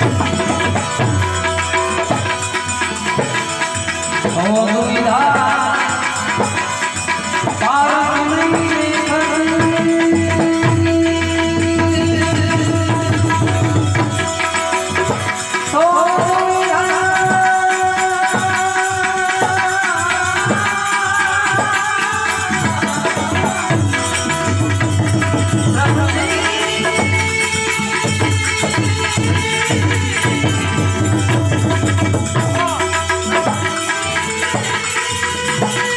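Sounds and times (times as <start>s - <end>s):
devotional song melody: 0.0s - 35.9s
hand drum beats: 0.0s - 35.9s
rattling percussion: 0.0s - 35.9s.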